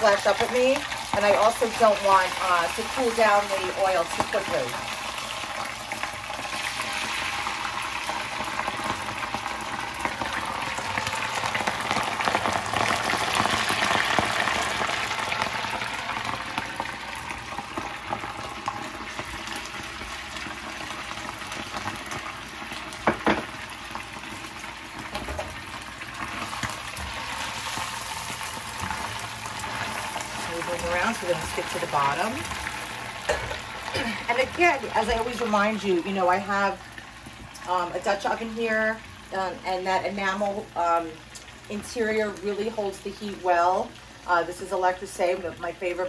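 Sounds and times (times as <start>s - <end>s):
shrimp deep-frying in oil: 0.0s - 46.0s.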